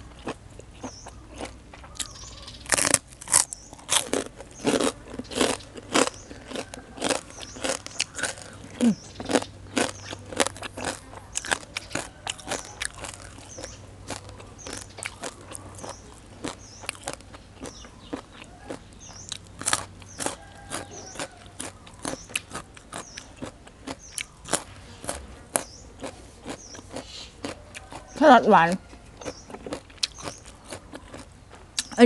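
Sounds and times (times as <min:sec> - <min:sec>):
carrot crunching: 0:00.0 - 0:32.0
wet chewing: 0:00.0 - 0:32.0.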